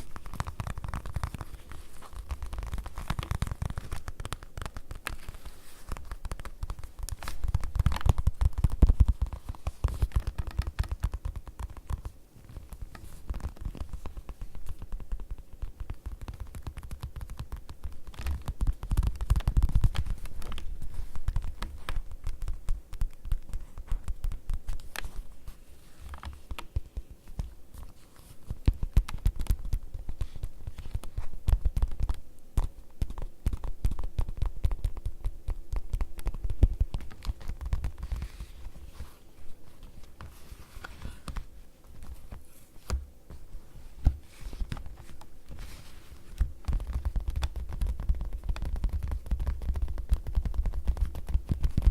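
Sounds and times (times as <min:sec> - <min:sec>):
fingertips tapping on leather: 0:00.0 - 0:51.9.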